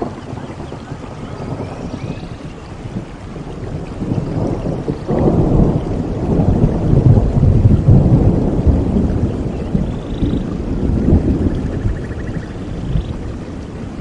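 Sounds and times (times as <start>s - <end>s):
rolling thunder: 0.0s - 14.0s
steady rain: 0.0s - 14.0s.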